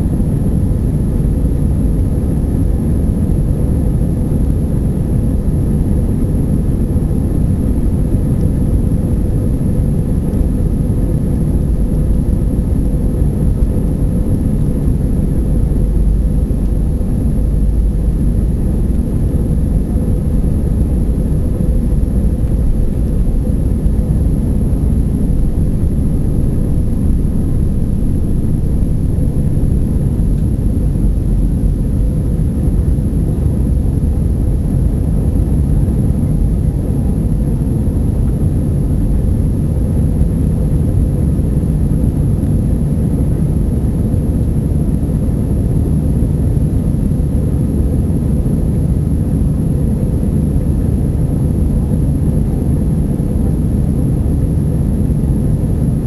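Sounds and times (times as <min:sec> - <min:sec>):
jet engines at takeoff thrust: 0:00.0 - 0:56.0
steady mid-pitched hum: 0:00.0 - 0:56.0.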